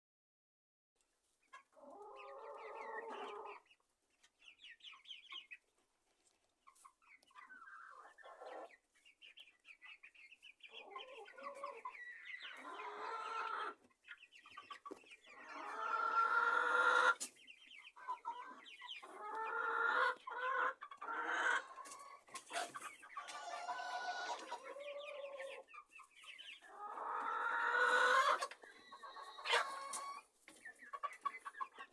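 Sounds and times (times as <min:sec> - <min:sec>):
young chickens clucking: 0:01.2 - 0:31.9.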